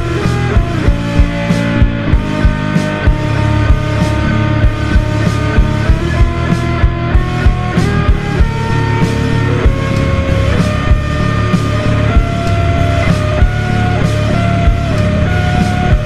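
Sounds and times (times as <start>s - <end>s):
held guitar notes: 0.0s - 16.0s
slowed rock song with reverb: 0.0s - 16.0s
steady drum beat: 0.0s - 16.0s.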